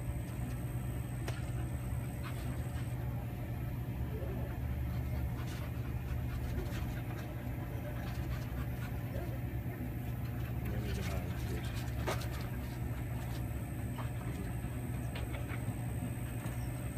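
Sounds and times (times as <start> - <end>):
steady low hum: 0.0 - 16.9
dog panting: 0.2 - 16.9.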